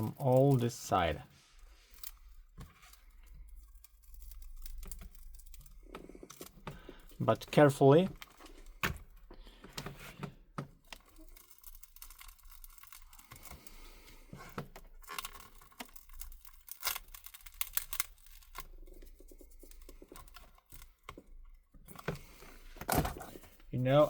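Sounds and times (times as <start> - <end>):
glue peeling: 1.6 - 24.0
glass clicking and cracking: 1.9 - 9.6, 10.2 - 23.2.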